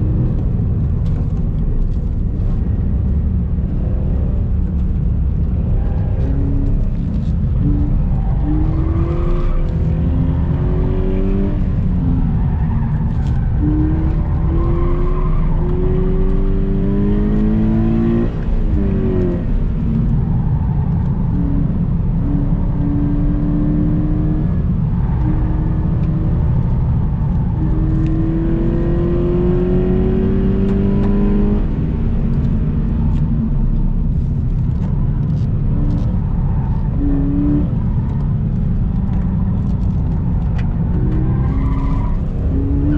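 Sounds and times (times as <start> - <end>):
car engine revving: 0.0 - 42.9
road and wind noise: 0.0 - 42.9.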